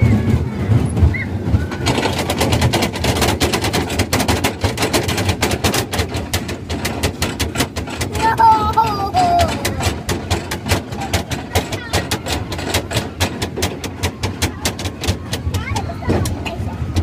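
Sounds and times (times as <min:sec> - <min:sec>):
fairground ride clicks and clatter: 0:00.0 - 0:17.0.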